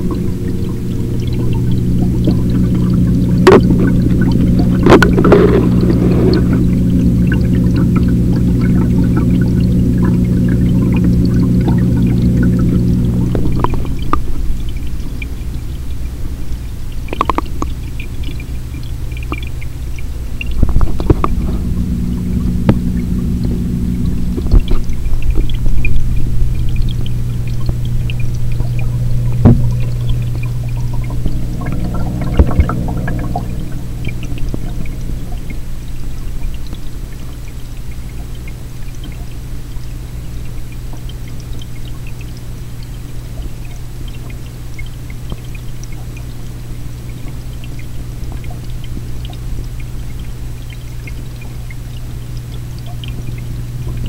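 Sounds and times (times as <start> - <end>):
steady low hum: 0.0 - 54.0
water pouring in aquarium: 0.0 - 54.0.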